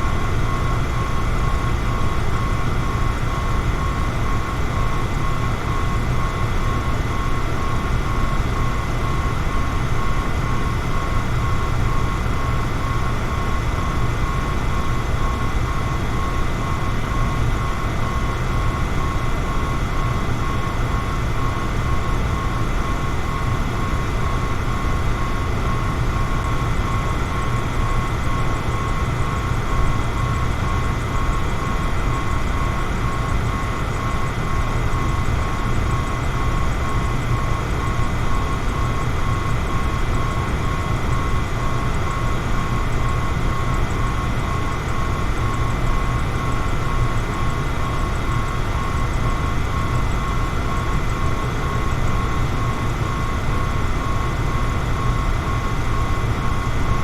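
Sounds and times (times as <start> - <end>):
electric fan running: 0.0 - 57.0.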